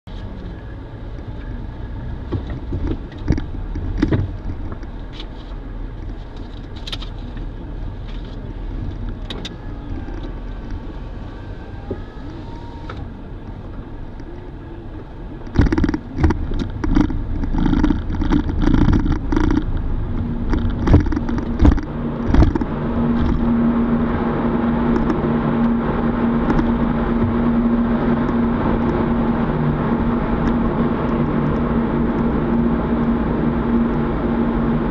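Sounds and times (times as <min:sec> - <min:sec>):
car moving from inside cabin: 0:00.0 - 0:34.9.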